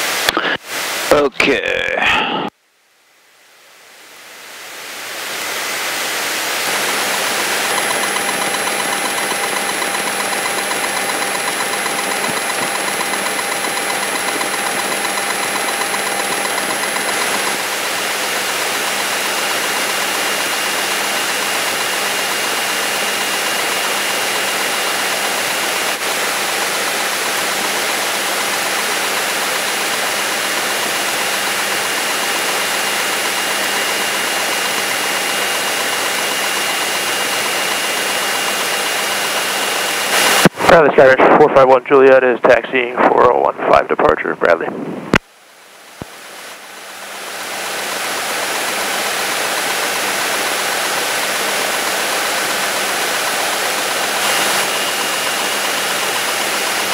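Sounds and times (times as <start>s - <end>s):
airplane piston engine running: 5.3s - 43.9s, 47.3s - 56.9s.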